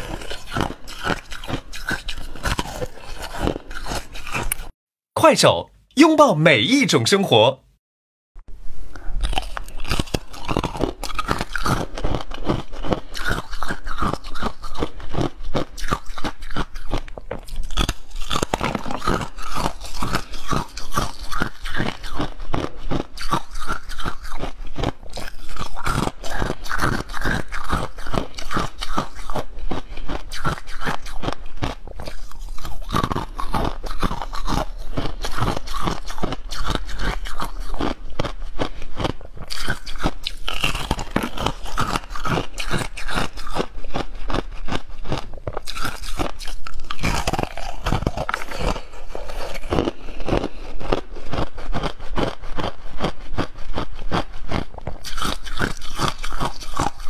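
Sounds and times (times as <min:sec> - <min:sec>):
ice being chewed: 0:00.0 - 0:04.7, 0:09.0 - 0:57.0.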